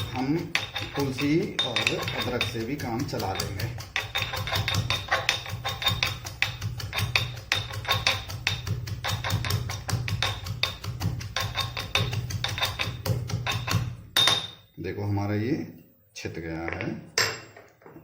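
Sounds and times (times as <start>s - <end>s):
pestle pounding knocks: 0.0s - 14.6s.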